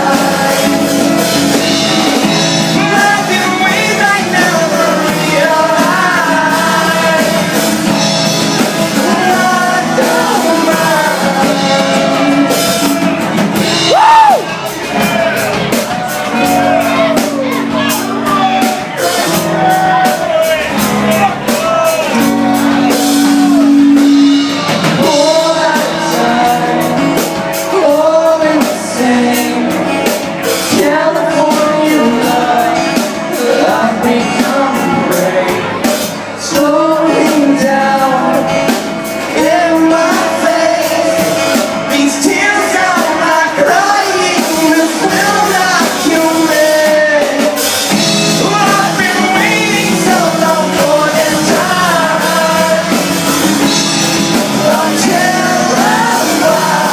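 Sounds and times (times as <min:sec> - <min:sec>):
acoustic guitar: 0:00.0 - 0:56.9
bass guitar: 0:00.0 - 0:56.9
man singing: 0:00.0 - 0:56.9.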